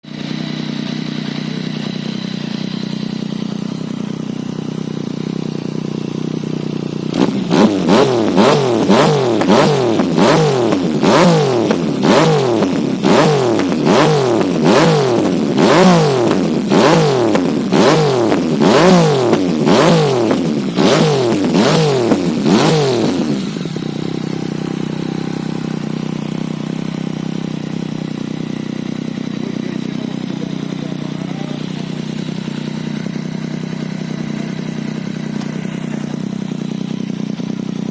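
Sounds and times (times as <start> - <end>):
motorcycle engine idling: 0.0 - 37.9
motorcycle engine revving: 0.0 - 37.9.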